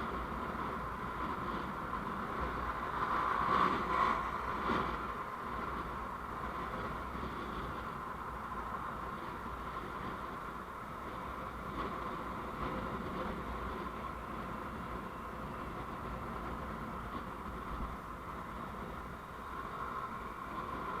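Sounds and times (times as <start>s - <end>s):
road and engine noise: 0.0s - 21.0s.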